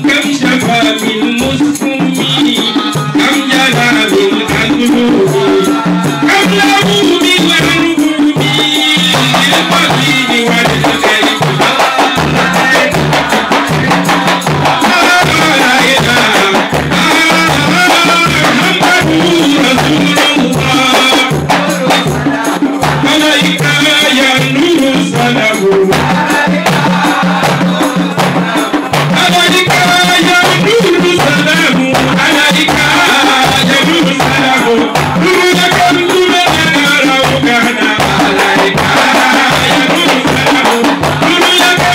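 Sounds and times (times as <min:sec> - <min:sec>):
man chanting through loudspeaker: 0:00.0 - 0:14.0, 0:14.8 - 0:26.1, 0:28.4 - 0:41.9
frame drums beaten by hand: 0:00.0 - 0:41.9.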